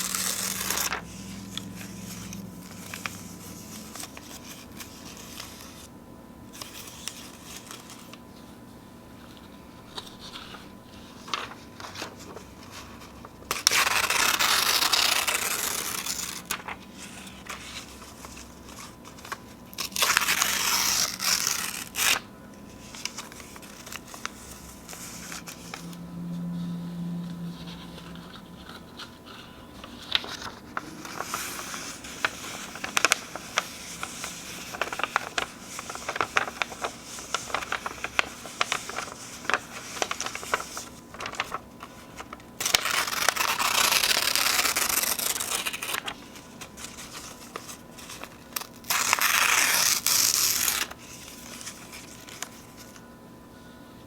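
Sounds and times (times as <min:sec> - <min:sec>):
paper rustling and crinkling: 0:00.0 - 0:05.9, 0:06.5 - 0:26.0, 0:27.4 - 0:53.1
paper tearing: 0:00.0 - 0:05.9, 0:09.9 - 0:25.9, 0:27.6 - 0:52.7.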